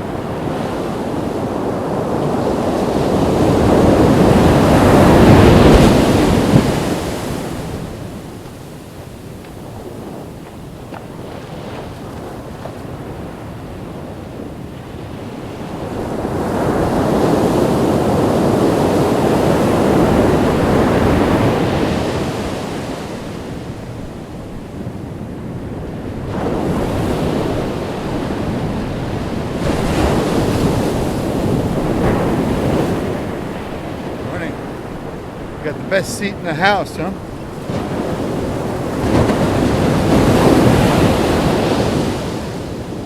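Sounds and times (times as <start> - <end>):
ocean surf breaking on a beach: 0.0 - 43.0.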